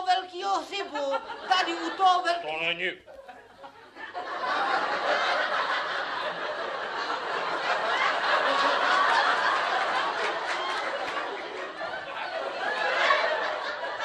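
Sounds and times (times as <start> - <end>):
audience laughing: 0.8 - 2.4, 3.0 - 14.0.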